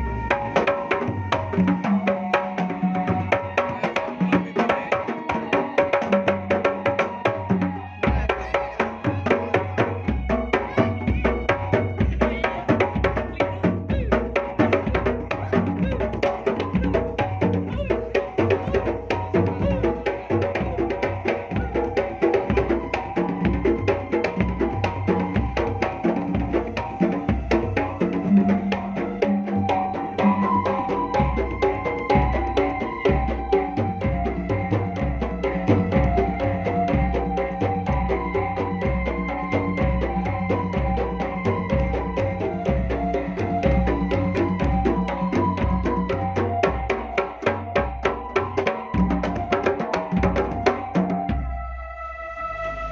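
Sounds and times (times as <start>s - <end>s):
fast hand drumming: 0.3s - 51.5s.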